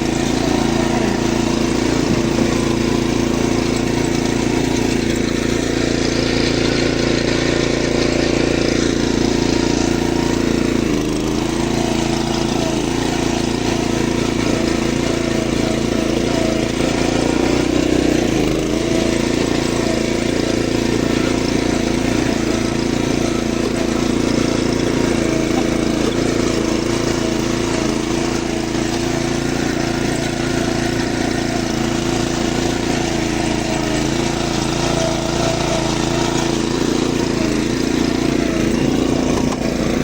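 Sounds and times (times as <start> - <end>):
machine engine running: 0.0 - 40.0.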